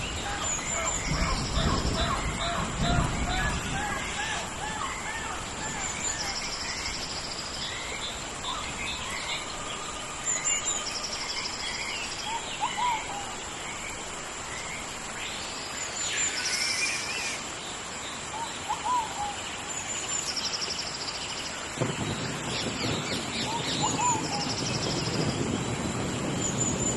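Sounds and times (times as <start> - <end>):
birds calling: 0.0 - 25.6
background hiss: 0.0 - 26.9.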